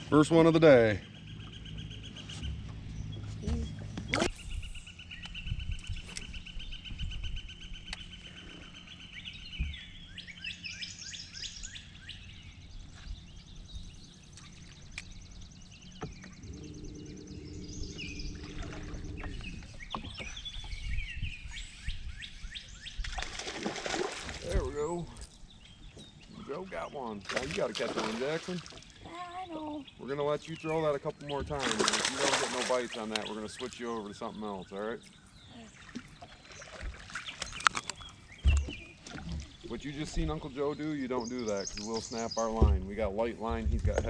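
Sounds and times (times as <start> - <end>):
birds chirping and warbling: 0.0 - 44.0
birds trilling: 0.0 - 44.0.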